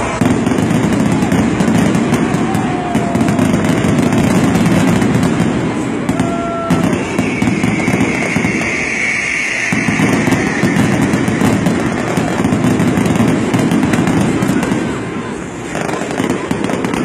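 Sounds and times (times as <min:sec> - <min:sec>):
firework whistles: 0:00.0 - 0:17.0
fireworks bangs and crackling: 0:00.0 - 0:17.0.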